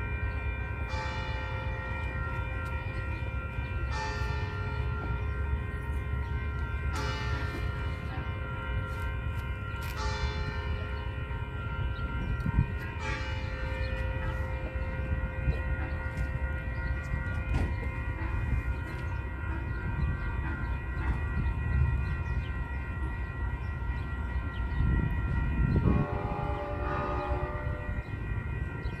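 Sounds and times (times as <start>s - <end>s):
crossing warning bells ringing: 0.0s - 29.0s.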